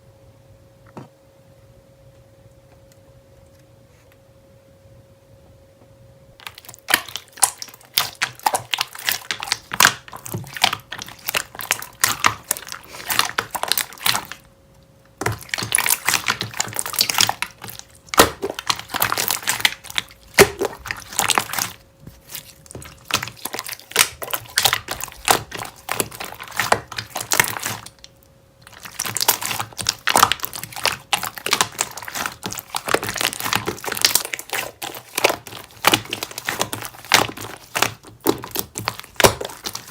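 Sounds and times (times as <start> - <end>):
slime squished by hand: 6.4 - 14.4, 15.1 - 39.9.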